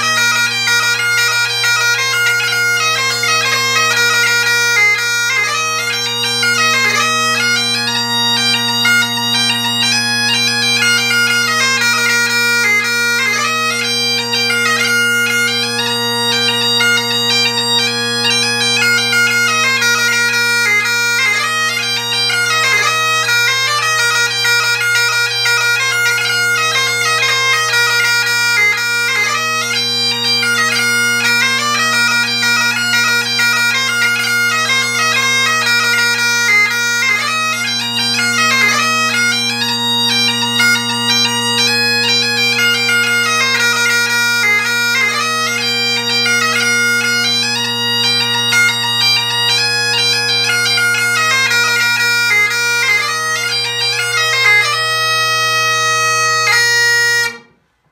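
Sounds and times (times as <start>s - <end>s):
bagpipe dance tune: 0.0s - 57.6s
bagpipe drones humming: 0.0s - 57.9s.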